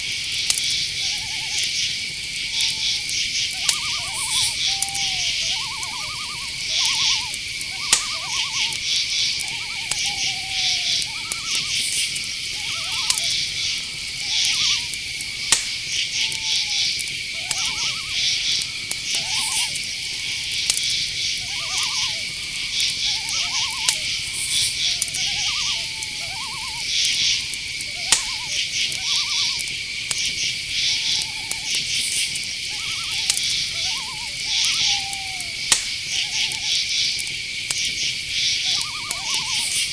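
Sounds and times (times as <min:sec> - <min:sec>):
crickets chirping: 0:00.0 - 0:39.9
high-pitched insect tone: 0:00.0 - 0:39.9
short quavering calls: 0:02.5 - 0:37.2.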